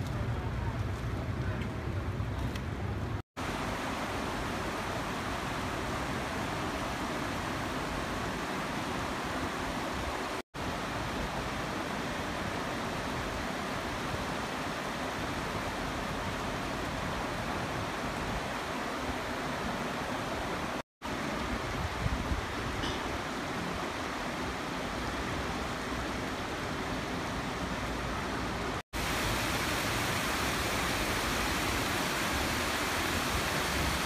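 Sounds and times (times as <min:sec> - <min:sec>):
river water rushing over rocks: 0:03.4 - 0:34.0.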